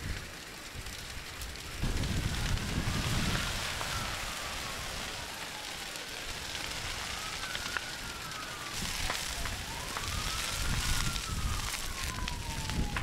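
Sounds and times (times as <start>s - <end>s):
fire crackling and roaring: 0.0s - 13.0s
siren wailing: 2.1s - 13.0s.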